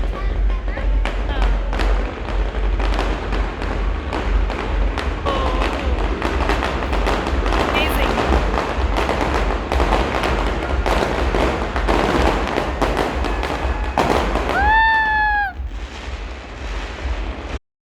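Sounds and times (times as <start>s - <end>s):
fireworks crackling and banging: 0.0s - 17.6s.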